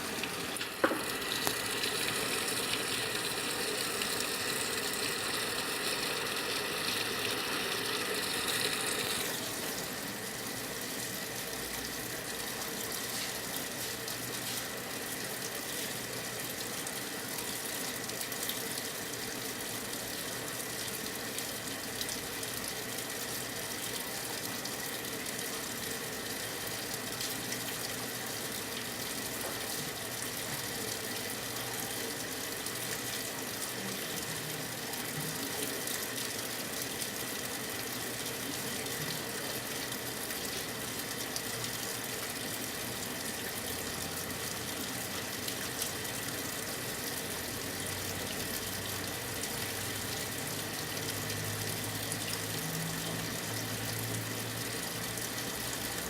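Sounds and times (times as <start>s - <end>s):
washing machine filling with water: 0.0s - 56.0s.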